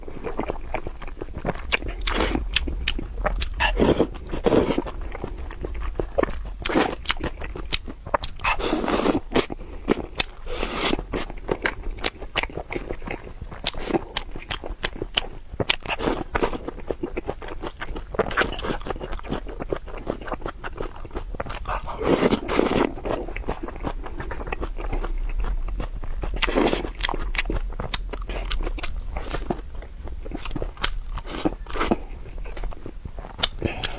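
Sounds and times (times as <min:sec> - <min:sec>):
person chewing crunchy food: 0:00.0 - 0:33.9.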